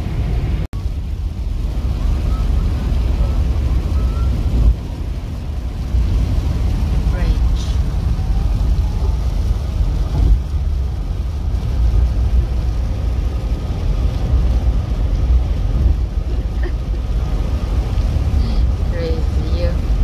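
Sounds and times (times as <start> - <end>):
tyre and engine rumble inside vehicle: 0.0 - 20.0.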